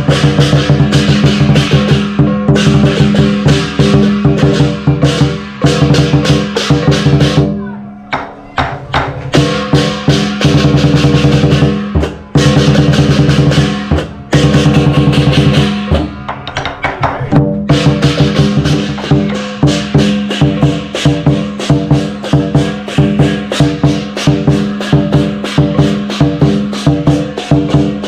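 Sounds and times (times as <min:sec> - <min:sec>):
big drum beaten fast: 0:00.0 - 0:28.0
cymbals crashing: 0:00.0 - 0:28.0.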